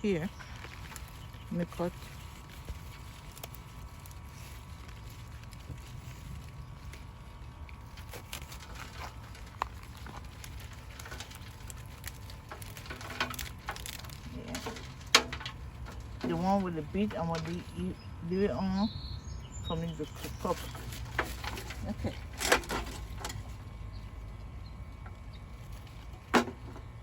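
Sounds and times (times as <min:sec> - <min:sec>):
leaves rustling: 0:00.0 - 0:27.0.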